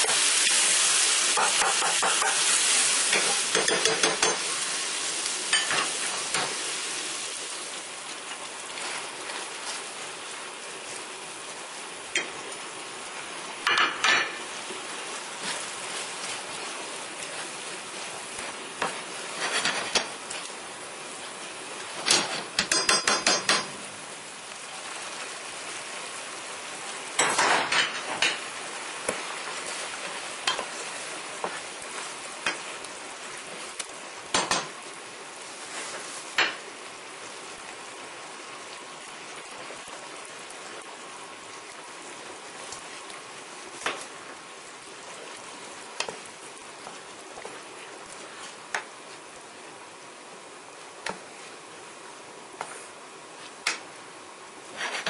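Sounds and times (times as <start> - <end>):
simmering sauce hiss: 0.0 - 55.0.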